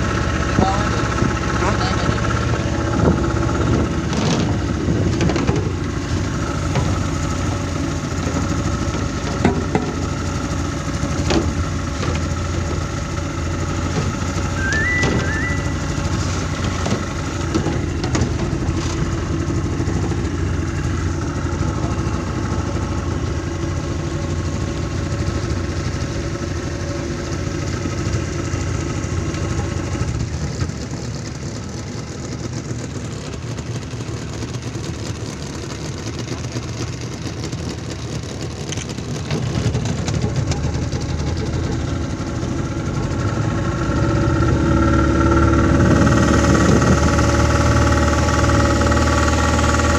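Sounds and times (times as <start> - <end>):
speedboat engine running: 0.0 - 49.9.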